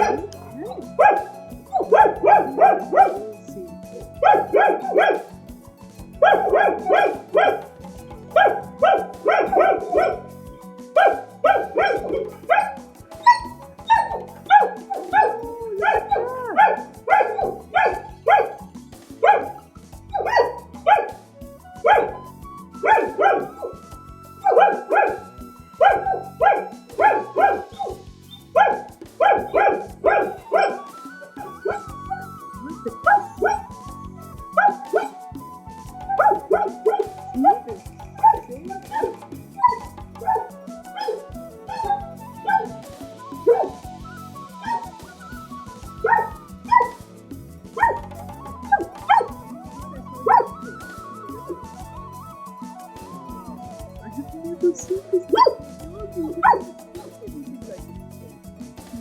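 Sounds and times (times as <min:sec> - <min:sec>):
dogs barking: 0:00.0 - 0:33.8, 0:34.4 - 0:47.0, 0:47.8 - 0:51.8, 0:52.5 - 0:58.0.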